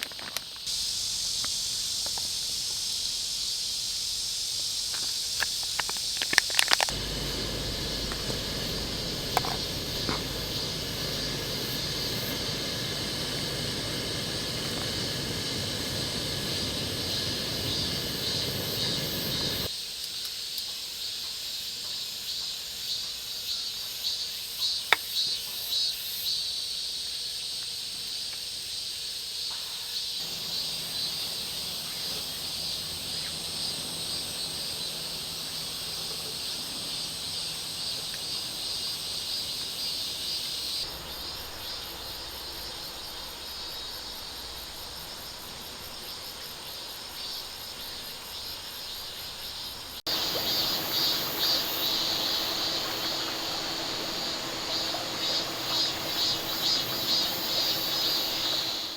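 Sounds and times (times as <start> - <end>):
insects chirping: 0.0 - 58.9.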